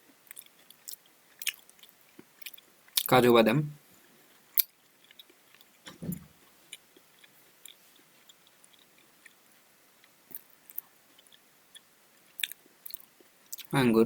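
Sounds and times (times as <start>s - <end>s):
person chewing food: 0.2s - 3.1s, 4.3s - 5.8s, 6.4s - 13.7s.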